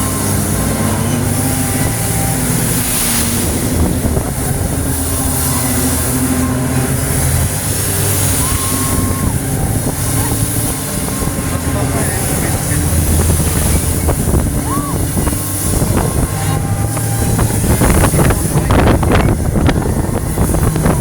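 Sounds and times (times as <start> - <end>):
ride machinery humming: 0.0 - 21.0.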